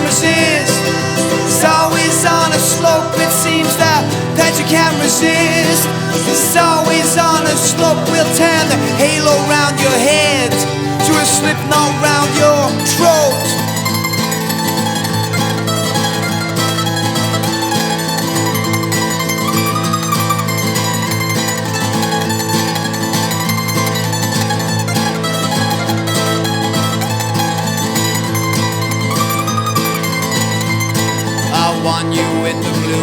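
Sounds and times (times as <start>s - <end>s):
folk-rock instrumental music: 0.0s - 33.0s.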